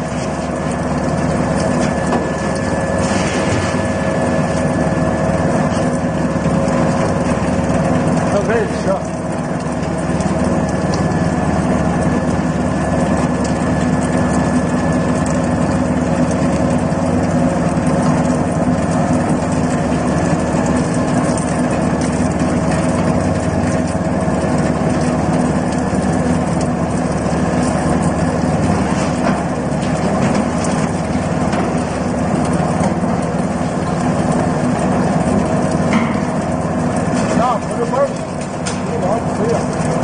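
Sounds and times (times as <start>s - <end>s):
oil expeller mechanical hum: 0.0s - 40.0s.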